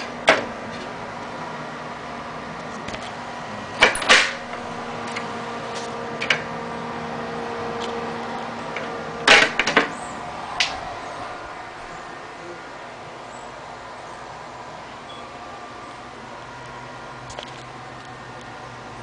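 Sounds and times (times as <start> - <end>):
computer fan hum: 0.0 - 19.0.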